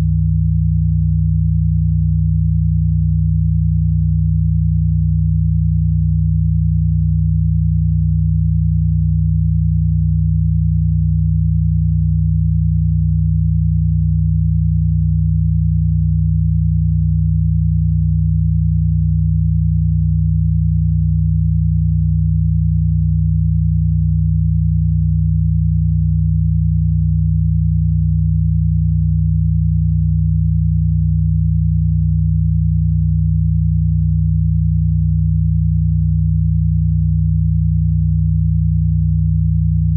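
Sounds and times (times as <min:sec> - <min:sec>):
low sine-wave hum: 0:00.0 - 0:39.9.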